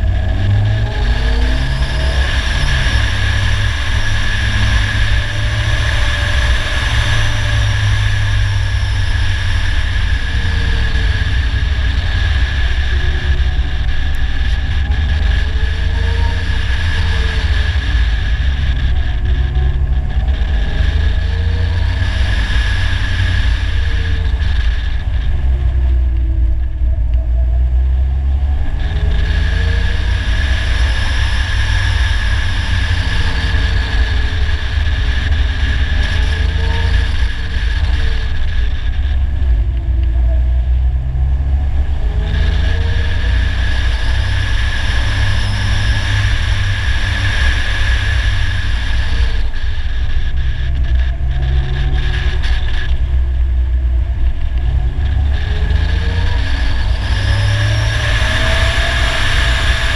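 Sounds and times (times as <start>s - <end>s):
engine revving while driving: 0.0s - 59.9s
wind and road noise: 0.0s - 59.9s.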